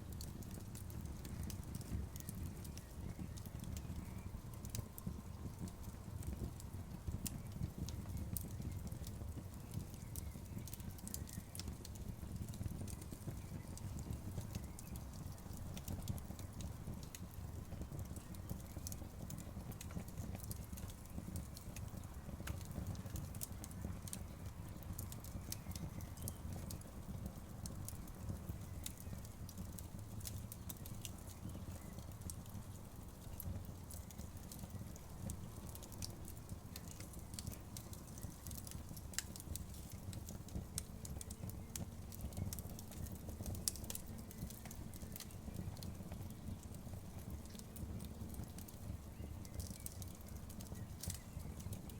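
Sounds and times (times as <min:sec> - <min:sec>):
bonfire low rumble: 0:00.0 - 0:51.9
burning wood crackling and popping: 0:00.0 - 0:51.9.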